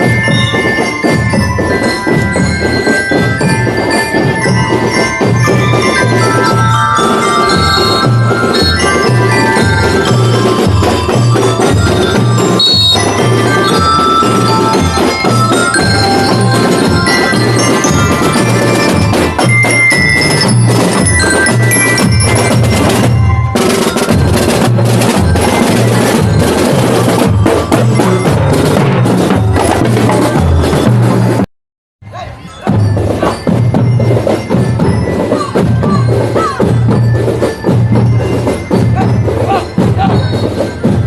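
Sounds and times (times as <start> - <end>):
marching band drumbeat: 0.0 - 31.5, 32.7 - 41.0
glockenspiel bells melody: 0.0 - 41.0.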